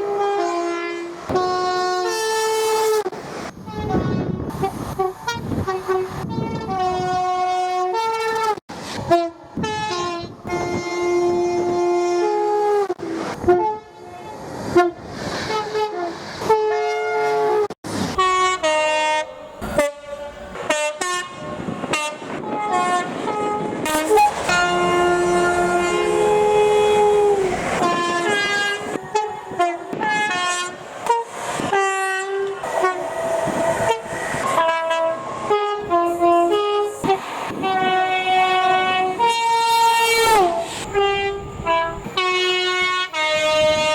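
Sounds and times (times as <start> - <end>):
rumble of passing trains: 0.0 - 43.9
train horn blasts: 0.0 - 43.9.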